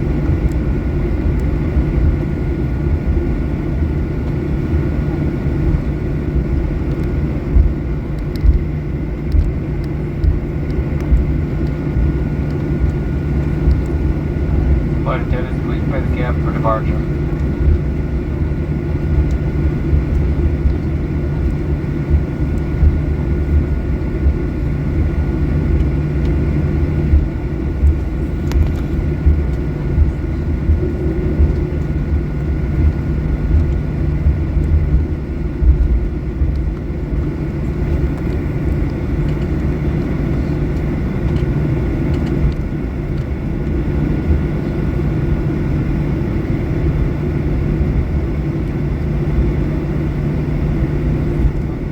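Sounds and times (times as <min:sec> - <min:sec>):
jet engine whine: 0:00.0 - 0:51.9
low cabin rumble: 0:00.0 - 0:51.9.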